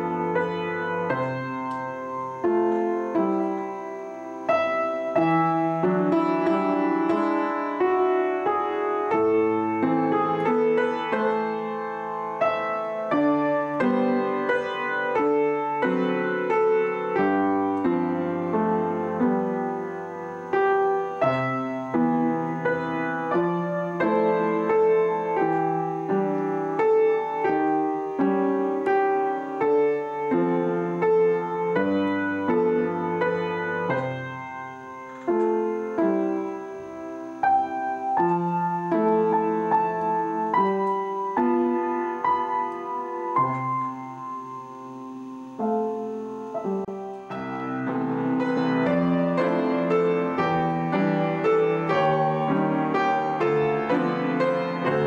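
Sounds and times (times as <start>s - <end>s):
upright piano playing: 0.0s - 55.0s.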